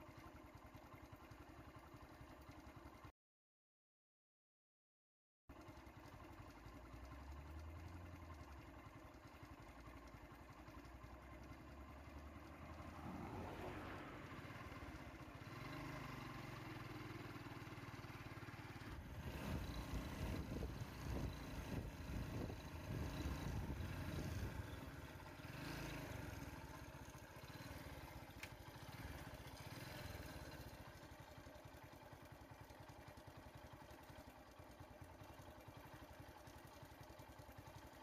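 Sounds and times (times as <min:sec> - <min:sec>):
vehicle engines idling: 0:05.6 - 0:38.0.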